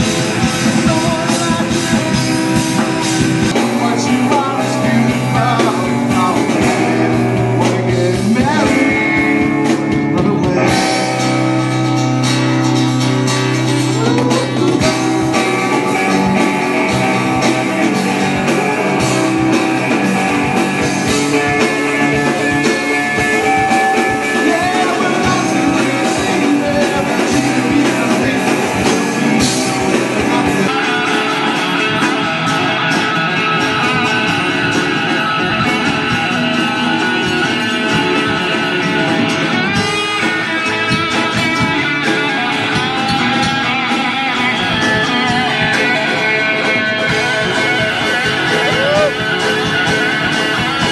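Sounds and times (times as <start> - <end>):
electric guitar: 0.0 - 50.9
rock band playing live: 0.0 - 50.9.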